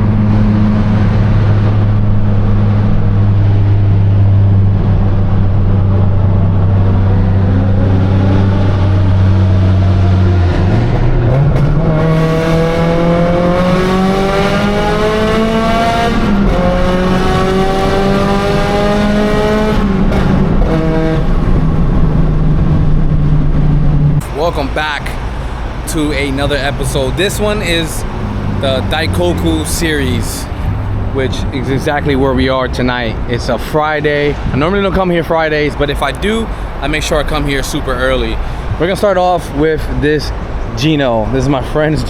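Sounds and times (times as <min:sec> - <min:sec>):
car engine accelerating: 0:00.0 - 0:39.1.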